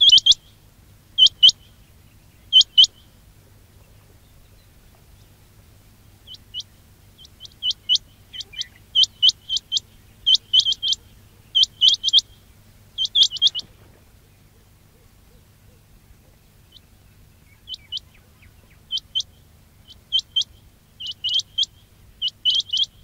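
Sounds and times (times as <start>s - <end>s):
quail calling: 0.0s - 0.5s, 1.2s - 5.2s, 6.2s - 23.0s
faint low hum: 0.0s - 23.0s.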